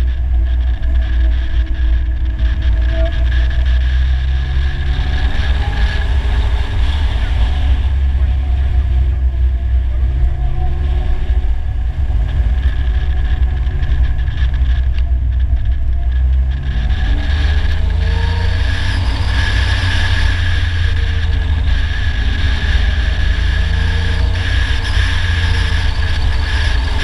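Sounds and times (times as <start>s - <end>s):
engine running and revving: 0.0s - 27.0s.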